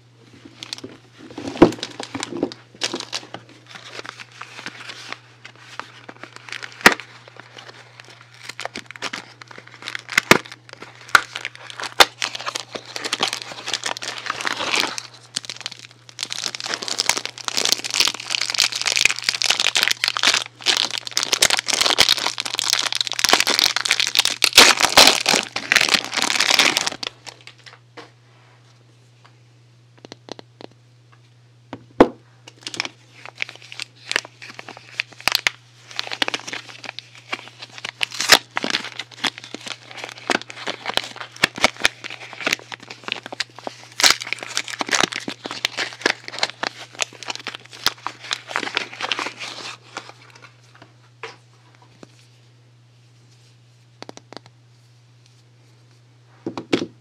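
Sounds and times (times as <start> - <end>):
faint low hum: 0.0 - 57.0
packaging crinkling and tearing: 0.4 - 27.8, 32.5 - 51.4.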